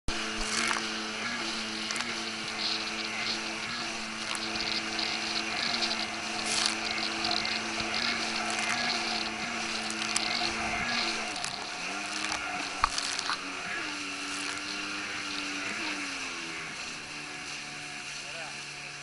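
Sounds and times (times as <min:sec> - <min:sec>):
water spray hissing: 0:00.1 - 0:17.8
watercraft engine humming: 0:00.1 - 0:19.0.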